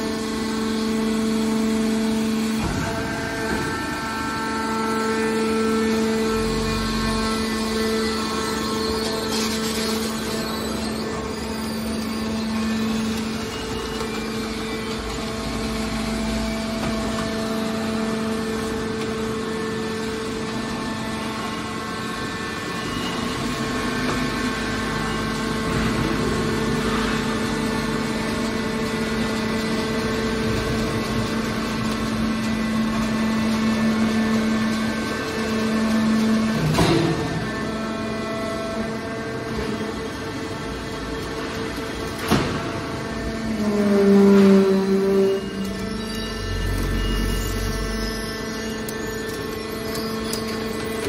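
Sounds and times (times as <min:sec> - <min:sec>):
hydraulic power unit humming: 0:00.0 - 0:51.0.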